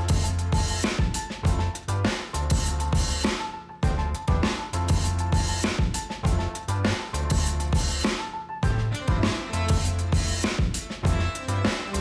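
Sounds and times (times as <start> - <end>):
drum-kit beat with bass line: 0.0 - 12.0.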